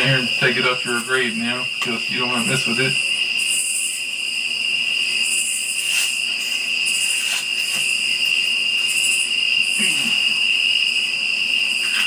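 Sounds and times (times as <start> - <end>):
cricket trill: 0.0 - 12.0
pulsing hissing insect call: 0.0 - 12.0.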